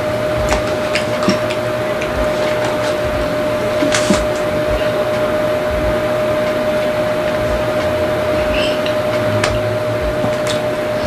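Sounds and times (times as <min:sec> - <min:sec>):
loud steady hiss: 0:00.0 - 0:11.0
mid-pitched hum: 0:00.0 - 0:11.0.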